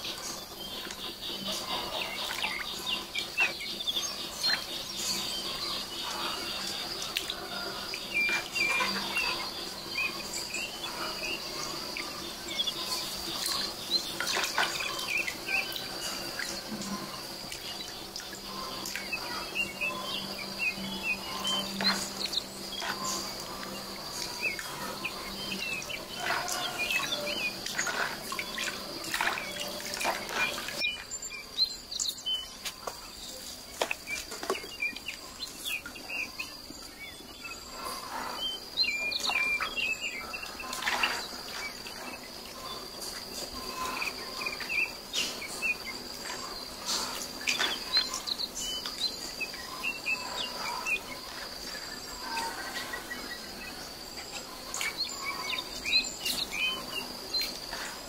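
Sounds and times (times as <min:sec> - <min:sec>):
bird chirps: 0:00.0 - 0:58.0
high insect drone: 0:00.0 - 0:58.0.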